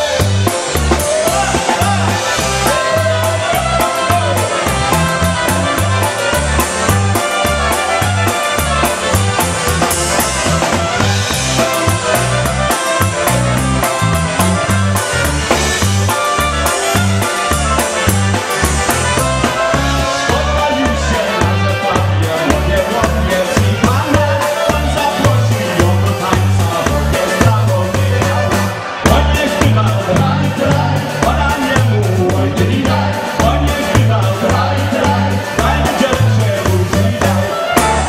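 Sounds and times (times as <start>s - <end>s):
concertina: 0.0s - 38.0s
drum kit: 0.0s - 38.0s
electric bass: 0.0s - 38.0s.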